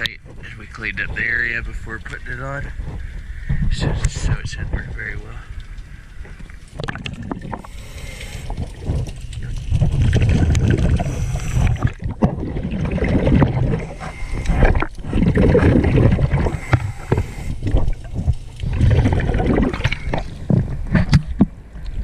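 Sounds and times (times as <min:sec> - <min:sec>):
underwater exhaled air bubbling: 0:00.0 - 0:22.0.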